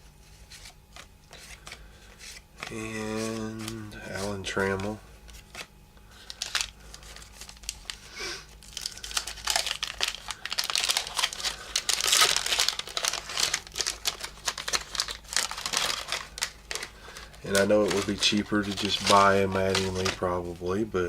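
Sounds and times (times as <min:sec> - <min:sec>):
wax paper wrapper crinkling: 0:00.3 - 0:21.0.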